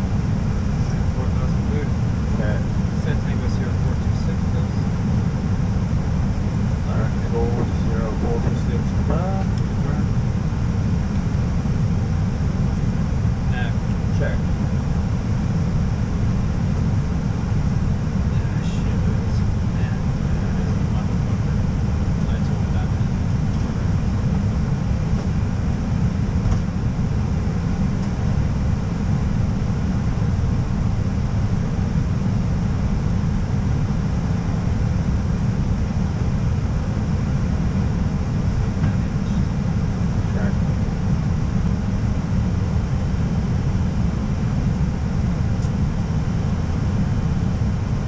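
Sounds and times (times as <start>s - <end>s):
cockpit airflow and engine rumble: 0.0s - 48.0s.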